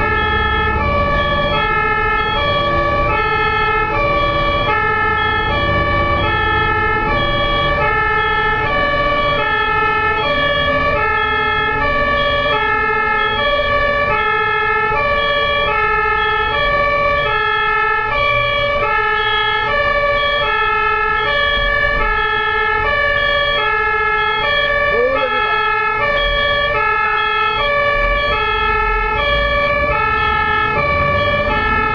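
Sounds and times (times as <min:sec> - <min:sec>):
low road and engine rumble: 0:00.0 - 0:31.9
two-tone ambulance siren: 0:00.0 - 0:31.9.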